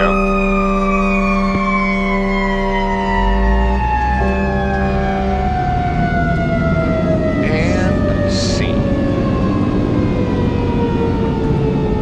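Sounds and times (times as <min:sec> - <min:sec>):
diesel engine drone: 0:00.0 - 0:12.0
mechanical siren winding down: 0:00.0 - 0:12.0.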